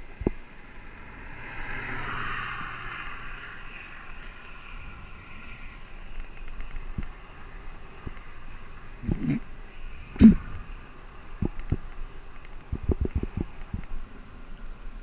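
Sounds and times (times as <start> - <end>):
wind and tyres rushing hiss: 0.0 - 15.0.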